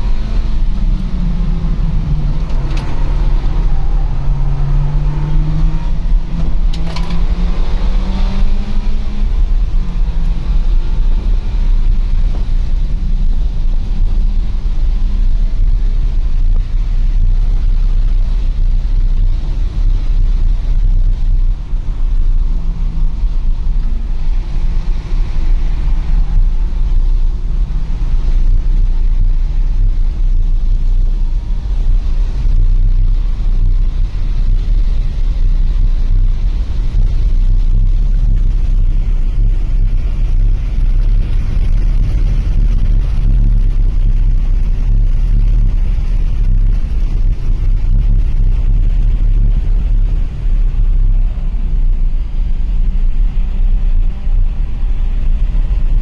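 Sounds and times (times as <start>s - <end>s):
car engine accelerating: 0.0s - 56.0s
road and wind noise rumble: 0.0s - 56.0s.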